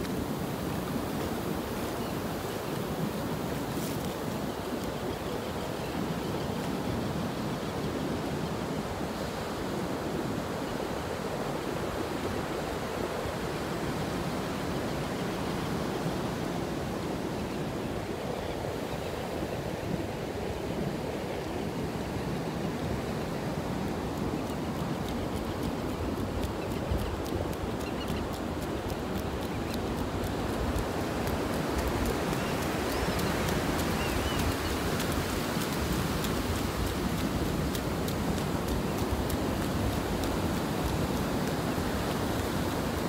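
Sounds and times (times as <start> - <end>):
ocean surf washing on beach: 0.0 - 43.0.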